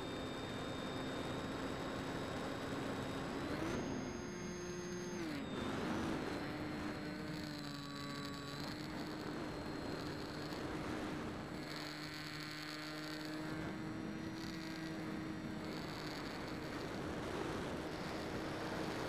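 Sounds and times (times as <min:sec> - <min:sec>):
electric motor propeller whining: 0:00.0 - 0:19.0.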